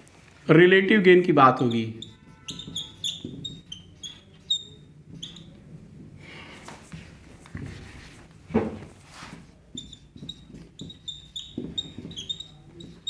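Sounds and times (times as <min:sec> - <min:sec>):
marker squeaking on whiteboard: 0:01.5 - 0:06.0, 0:06.9 - 0:13.0.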